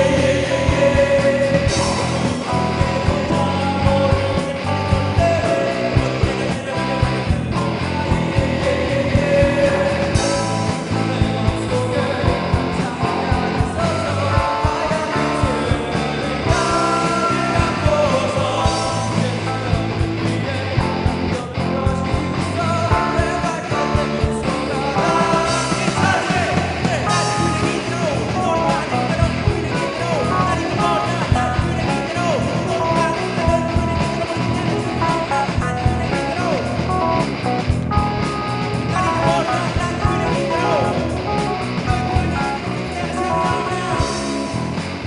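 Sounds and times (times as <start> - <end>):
person singing: 0.0 - 44.8
rock band playing live: 0.0 - 45.0.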